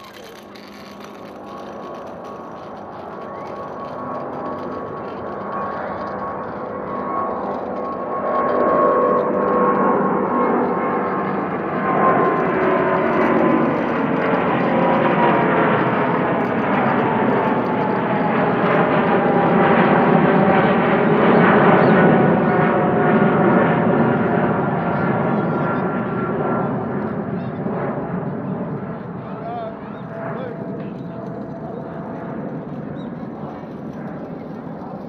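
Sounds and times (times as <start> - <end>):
jet roar passing overhead: 0.0 - 35.0.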